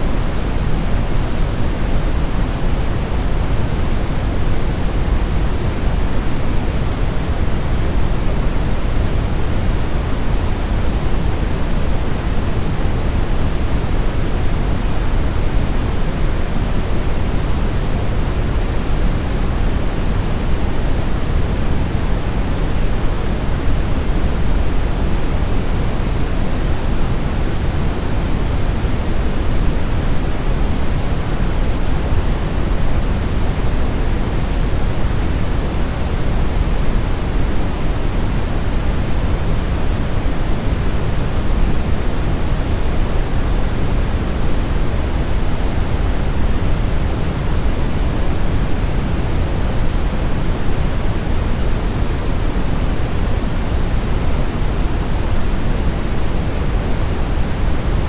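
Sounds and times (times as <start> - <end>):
steady brown noise: 0.0 - 58.0.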